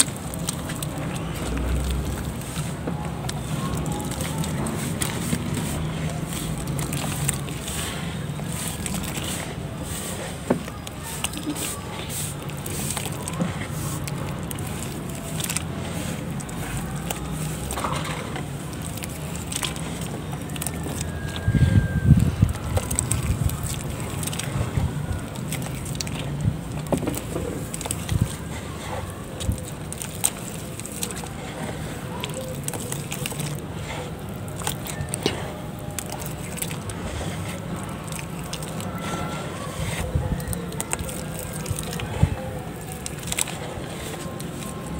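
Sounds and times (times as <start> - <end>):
wet mud squelching: 0.0 - 44.9.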